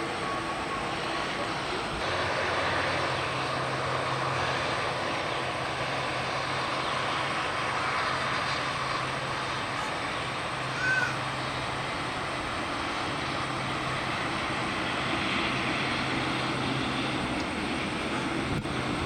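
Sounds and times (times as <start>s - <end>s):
jet engines and airflow: 0.0s - 19.0s.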